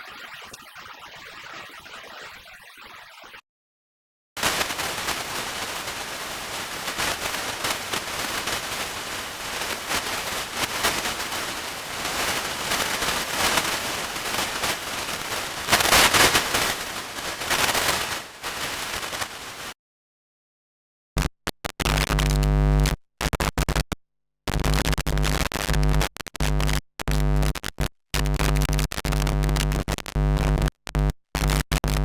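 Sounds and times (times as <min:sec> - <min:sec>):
vinyl record crackle: 0:00.0 - 0:03.4, 0:04.4 - 0:19.8, 0:21.2 - 0:23.9, 0:24.5 - 0:32.0.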